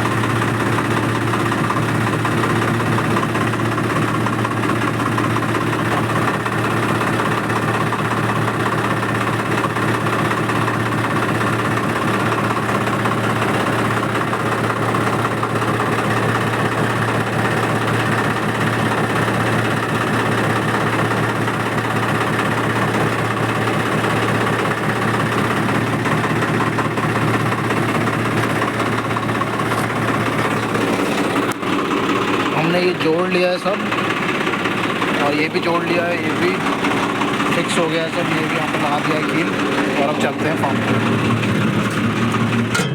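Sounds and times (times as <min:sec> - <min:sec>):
tractor diesel engine idling: 0:00.0 - 0:42.9.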